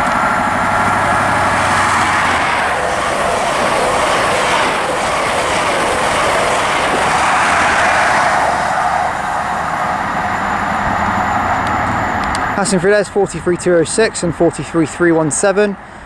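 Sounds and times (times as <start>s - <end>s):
high-speed train passing: 0.0s - 16.0s.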